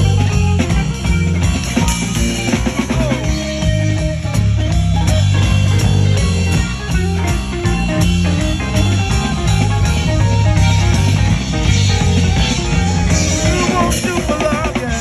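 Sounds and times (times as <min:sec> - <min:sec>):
bass line: 0:00.0 - 0:15.0
electric guitar: 0:00.0 - 0:15.0
keyboard: 0:00.0 - 0:15.0
steady drum beat: 0:00.0 - 0:15.0.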